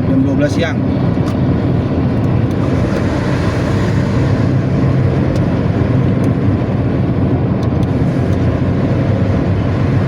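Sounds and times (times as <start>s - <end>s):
bus engine deep growl: 0.0s - 10.0s.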